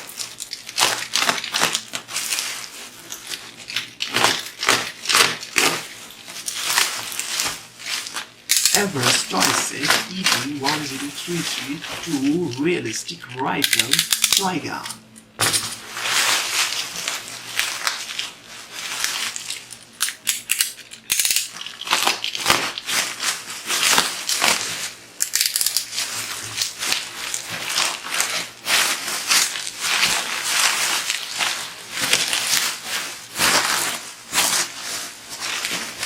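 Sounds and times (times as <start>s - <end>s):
plastic and cardboard rustling: 0.0s - 20.0s, 21.5s - 25.1s, 25.7s - 36.0s.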